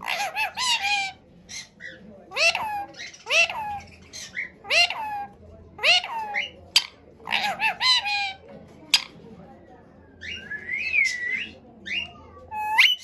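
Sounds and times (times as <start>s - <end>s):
parrot calling: 0.0s - 9.2s, 11.0s - 13.0s.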